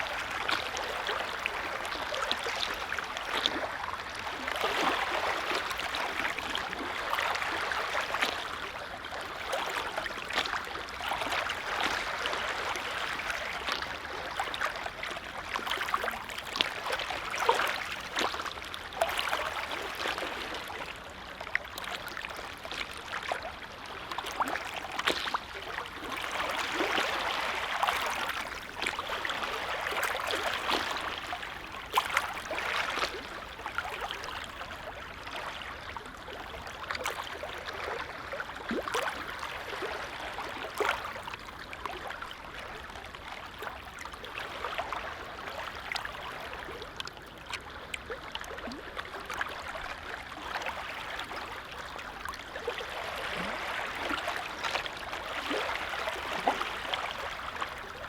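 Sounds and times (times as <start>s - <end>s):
gentle waves lapping on a lake: 0.0s - 58.0s.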